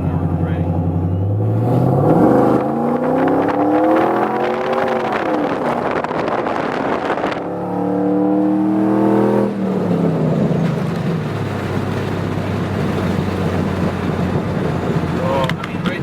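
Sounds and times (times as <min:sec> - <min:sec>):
pickup truck engine accelerating: 0:00.0 - 0:16.0.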